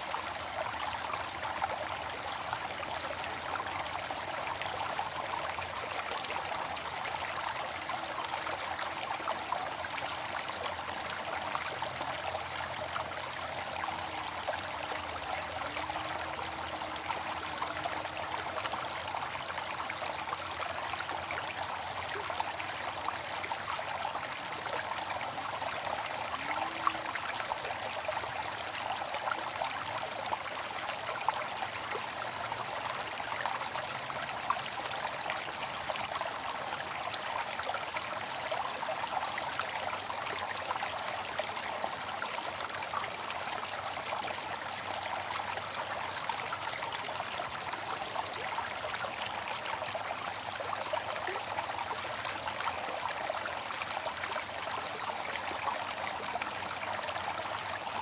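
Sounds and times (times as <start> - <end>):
water fountain trickling and splashing: 0.0 - 58.0.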